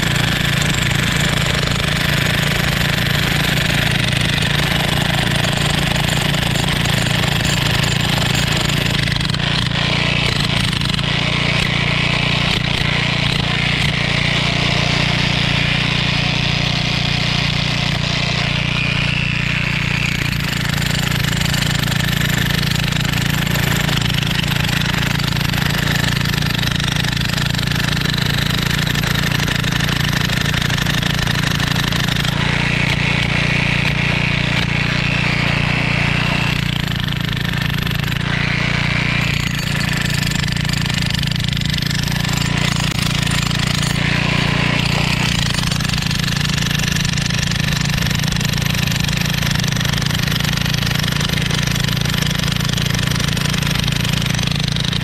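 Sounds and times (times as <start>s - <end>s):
jackhammer breaking concrete: 0.0s - 55.0s.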